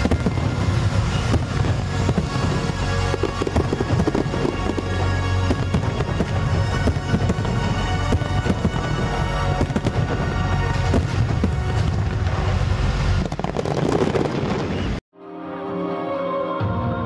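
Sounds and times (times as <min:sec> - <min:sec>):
music playing: 0:00.0 - 0:14.0, 0:15.1 - 0:17.0
fireworks cracking and banging: 0:00.0 - 0:15.0.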